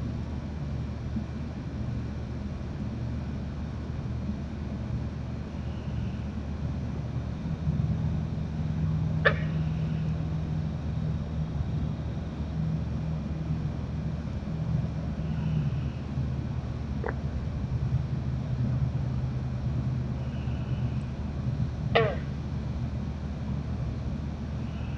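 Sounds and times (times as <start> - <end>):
steady low drone: 0.0 - 24.9.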